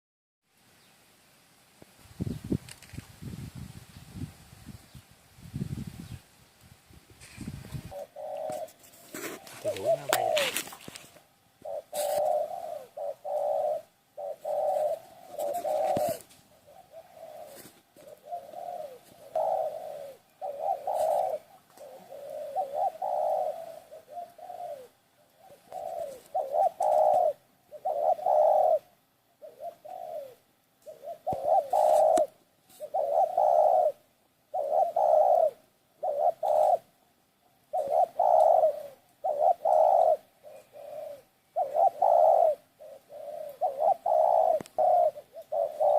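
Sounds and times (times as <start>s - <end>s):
dove cooing: 7.6s - 45.9s.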